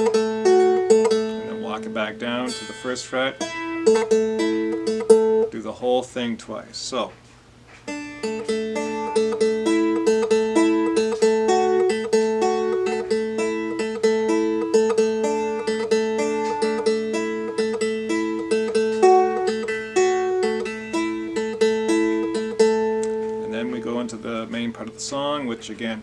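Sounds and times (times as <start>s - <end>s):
plucked dulcimer riff: 0.0s - 5.6s, 7.9s - 26.0s.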